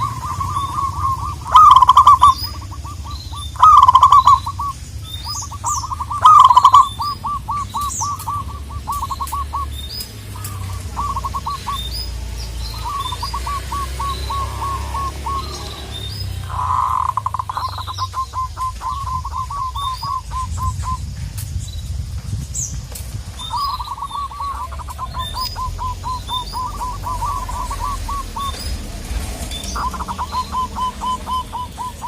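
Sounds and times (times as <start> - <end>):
doves cooing: 0.0 - 21.2, 23.3 - 32.0
small birds chirping faintly: 0.0 - 32.0.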